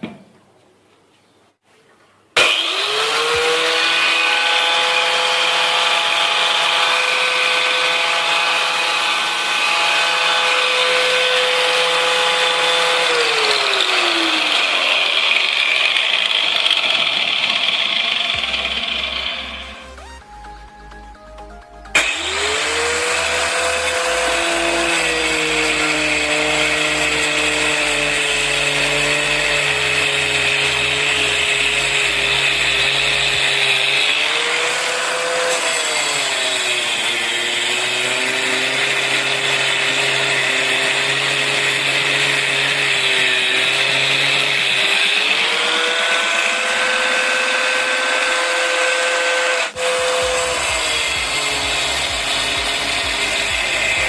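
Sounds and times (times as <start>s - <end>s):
angle grinder running: 2.4s - 20.2s, 21.9s - 54.0s.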